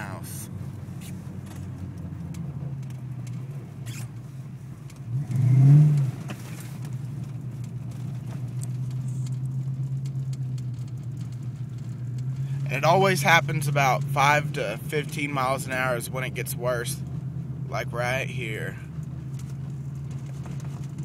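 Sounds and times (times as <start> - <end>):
car engine low drone: 0.0 - 21.0.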